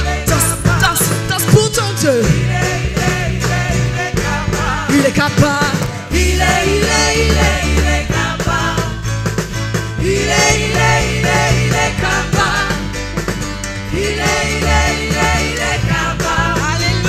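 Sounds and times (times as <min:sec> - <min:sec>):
people singing: 0:00.0 - 0:09.3, 0:10.0 - 0:17.0
bass line: 0:00.0 - 0:17.0
keyboard: 0:00.0 - 0:17.0.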